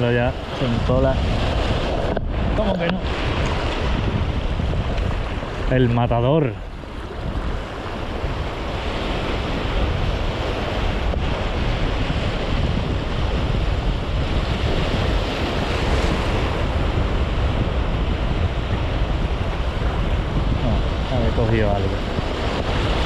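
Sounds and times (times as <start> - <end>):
waves breaking on rocks: 0.0 - 23.0
wind buffeting microphone: 0.0 - 23.0.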